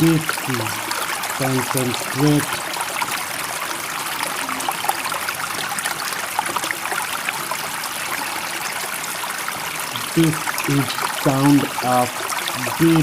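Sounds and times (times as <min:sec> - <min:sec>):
running water rushing: 0:00.0 - 0:13.0
water splashes and trickles: 0:00.0 - 0:13.0.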